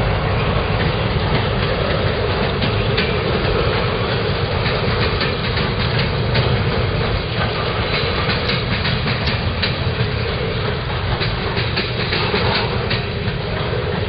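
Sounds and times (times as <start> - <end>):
steel wheels rumbling on rail: 0.0 - 14.0
wheels clicking over rail joints: 0.0 - 14.0.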